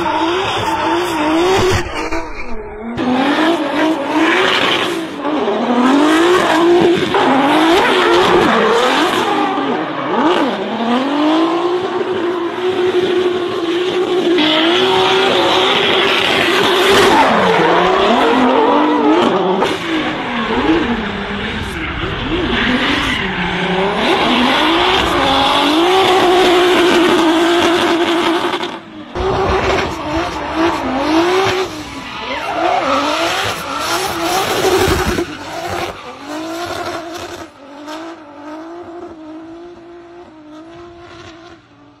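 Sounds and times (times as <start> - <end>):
car engine revving: 0.0 - 41.6.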